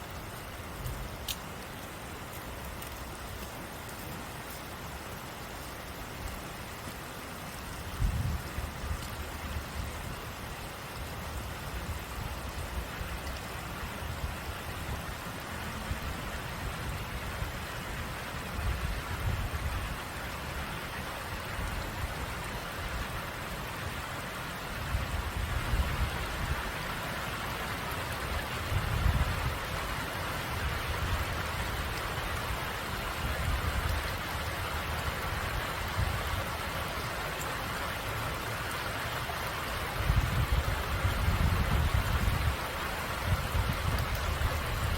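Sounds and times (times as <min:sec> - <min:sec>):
flowing water: 0:00.0 - 0:44.9
rain falling: 0:00.0 - 0:44.9.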